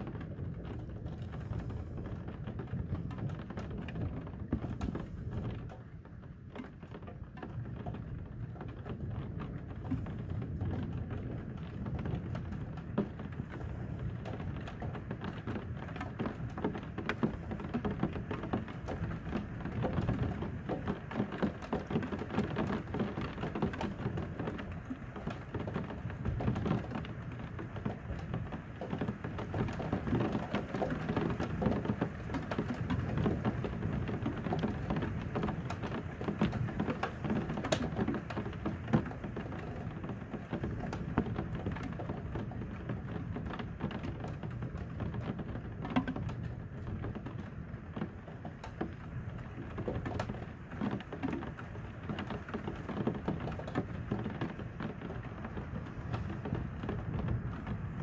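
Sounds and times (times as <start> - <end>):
rain on hard surface: 0.0 - 58.0.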